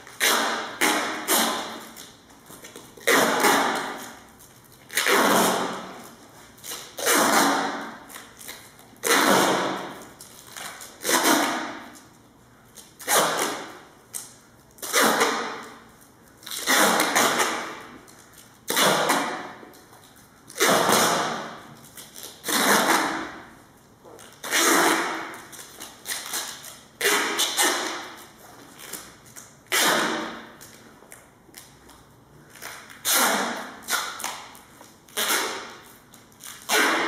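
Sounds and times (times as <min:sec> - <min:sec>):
duct tape ripping off roll: 0:00.0 - 0:12.1, 0:12.8 - 0:15.8, 0:16.4 - 0:19.8, 0:20.5 - 0:23.5, 0:24.2 - 0:30.8, 0:32.5 - 0:37.0.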